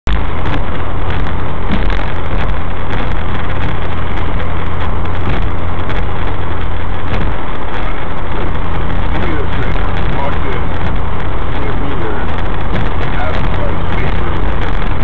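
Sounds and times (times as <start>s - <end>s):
car engine drone: 0.0s - 15.0s
road and tyre noise: 0.0s - 15.0s.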